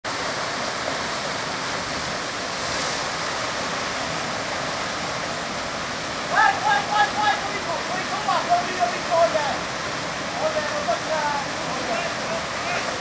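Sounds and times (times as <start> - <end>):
waterfall pouring into pool: 0.1 - 13.0.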